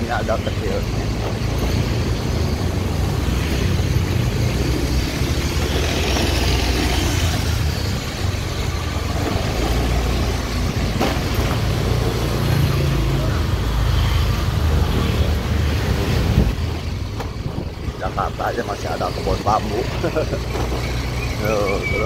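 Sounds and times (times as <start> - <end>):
motor scooters passing: 0.0 - 22.0
motorbike engine hum: 0.0 - 22.0
road noise: 0.0 - 22.0.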